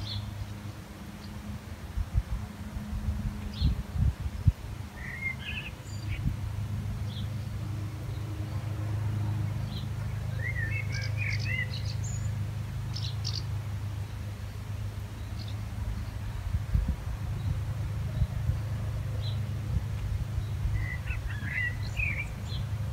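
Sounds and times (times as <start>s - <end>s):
small birds chirping: 0.0s - 1.5s, 4.4s - 22.9s
steady low hum: 0.0s - 22.9s.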